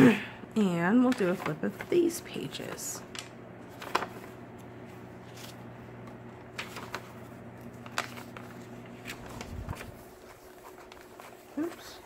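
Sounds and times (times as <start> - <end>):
low steady hum: 0.0 - 12.0
paper pages turning: 1.0 - 12.0.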